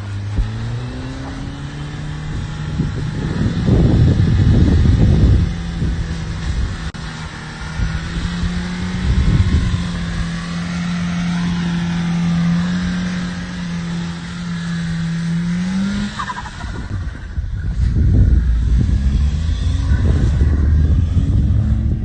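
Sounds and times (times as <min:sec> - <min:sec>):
car engine at steady revs: 0:00.0 - 0:22.0.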